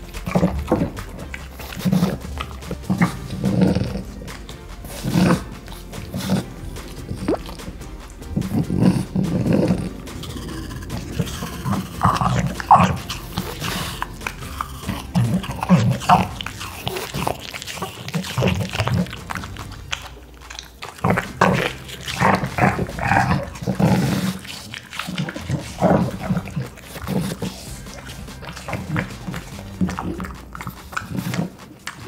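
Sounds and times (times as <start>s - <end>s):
dog crunching apple: 0.0s - 32.0s.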